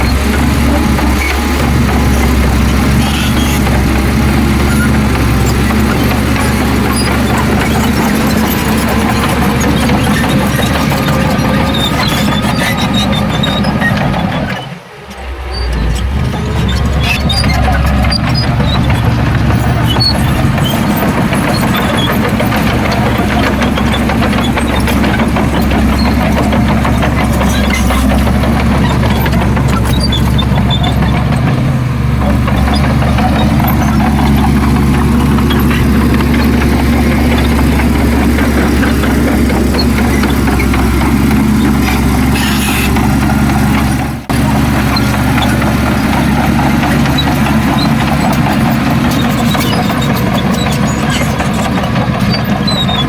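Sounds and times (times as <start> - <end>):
diesel engine low hum: 0.0 - 53.0.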